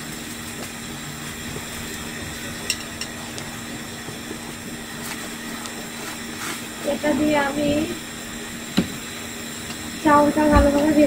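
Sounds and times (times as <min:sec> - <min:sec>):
low hum: 0:00.0 - 0:11.0
steady hiss: 0:00.0 - 0:11.0.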